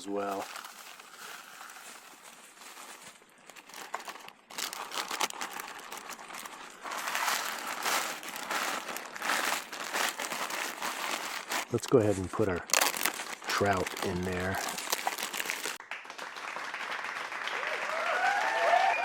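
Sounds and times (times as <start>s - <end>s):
crackers crunching: 0.0s - 15.8s
plastic bag crinkling: 0.0s - 15.8s.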